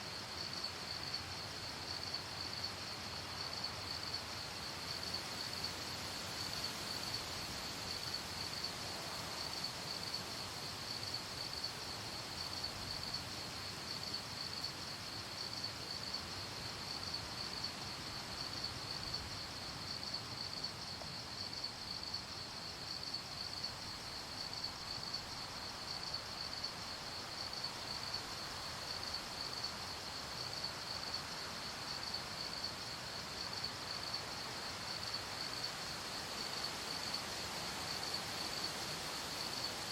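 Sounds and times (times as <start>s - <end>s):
crickets chirping: 0.0s - 39.9s
soft background hiss: 0.0s - 39.9s.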